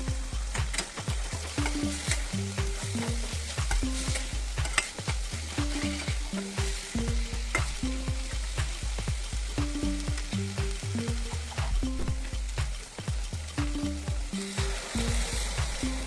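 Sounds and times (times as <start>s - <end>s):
background music with bass: 0.0s - 16.0s
food sizzling in a pan: 0.0s - 16.0s.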